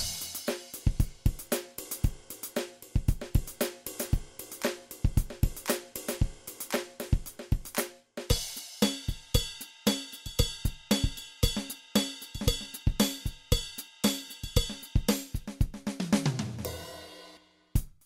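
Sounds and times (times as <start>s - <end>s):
drum kit beat music: 0.0s - 18.0s.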